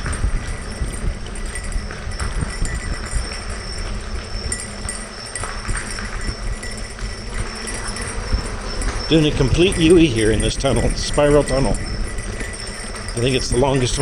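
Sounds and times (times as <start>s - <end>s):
bicycle rolling over gravel: 0.0s - 14.0s.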